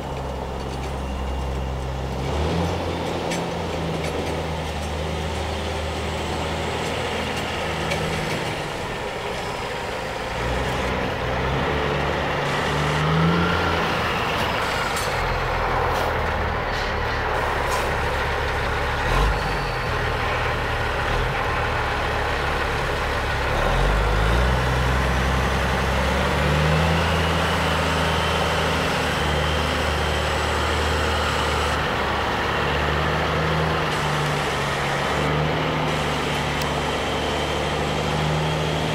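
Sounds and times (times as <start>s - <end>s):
truck diesel engine: 0.0s - 38.9s.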